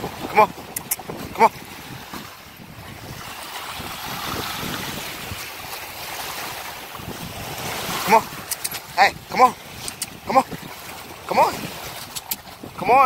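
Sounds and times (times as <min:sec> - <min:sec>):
small waves washing on shore: 0:00.0 - 0:13.0
wind buffeting microphone: 0:00.0 - 0:13.0.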